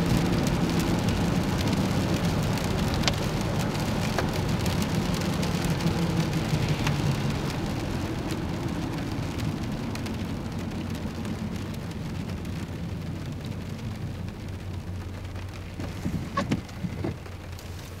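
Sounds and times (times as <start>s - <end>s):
rain on a car: 0.0s - 18.0s.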